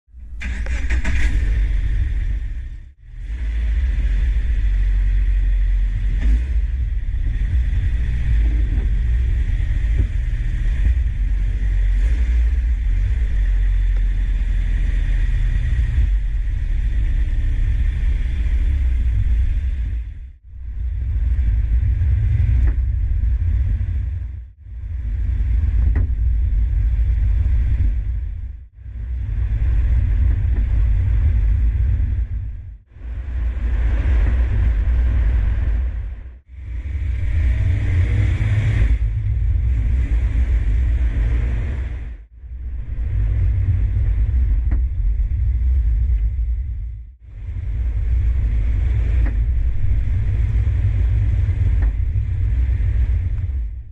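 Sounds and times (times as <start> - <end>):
car driving low rumble: 0.0 - 53.9.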